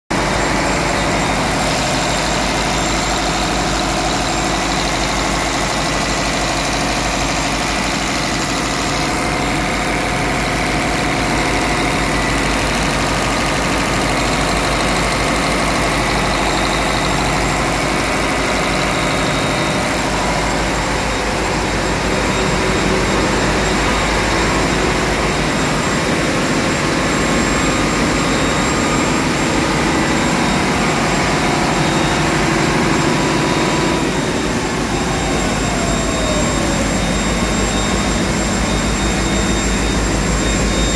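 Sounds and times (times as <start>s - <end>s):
diesel generator running: 0.1s - 40.9s.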